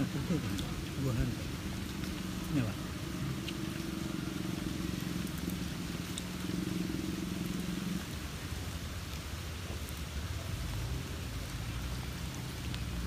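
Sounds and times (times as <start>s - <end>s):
outdoor hiss: 0.0s - 13.0s.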